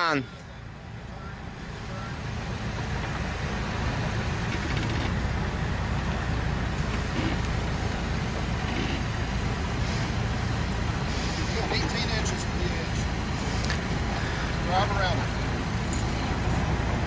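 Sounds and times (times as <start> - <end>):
engine running at a crawl: 0.0 - 17.0.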